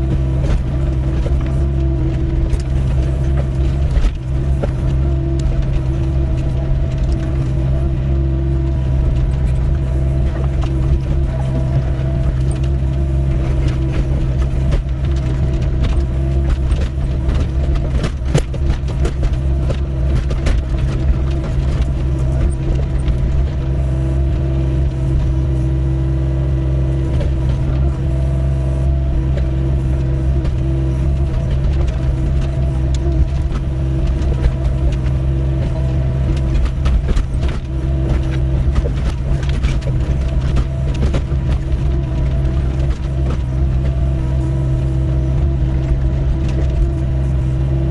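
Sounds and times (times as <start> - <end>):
knocks and scrapes: 0.0 - 25.7, 28.8 - 47.9
excavator diesel engine running: 0.0 - 47.9.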